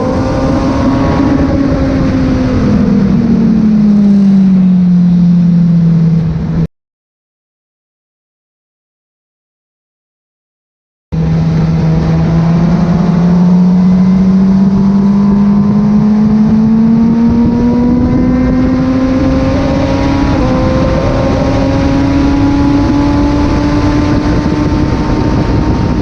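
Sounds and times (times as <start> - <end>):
motorcycle engine running under load: 0.0 - 6.7, 11.2 - 26.0.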